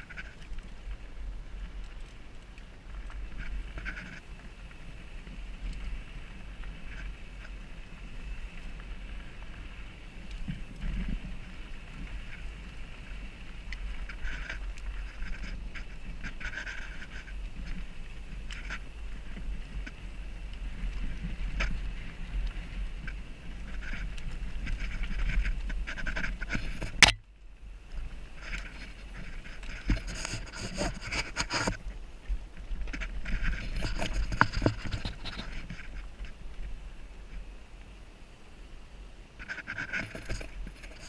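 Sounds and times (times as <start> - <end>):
bike clicks and rattles: 0.0 - 37.4, 39.4 - 41.0
wind rumble on microphone: 0.0 - 41.0.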